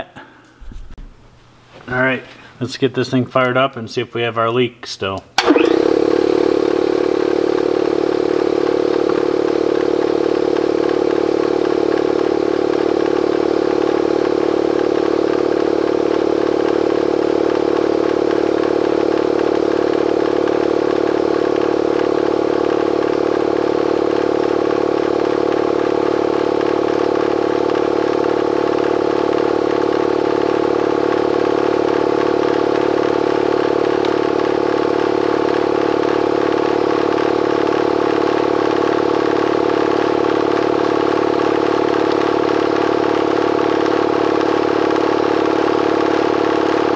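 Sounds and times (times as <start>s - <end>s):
air compressor running: 5.4s - 46.9s.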